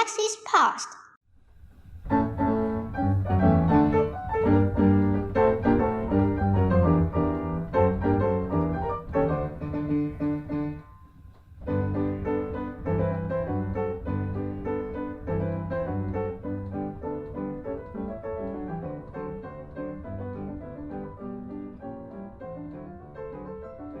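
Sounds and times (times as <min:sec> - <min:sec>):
piano background music: 0:02.0 - 0:24.0.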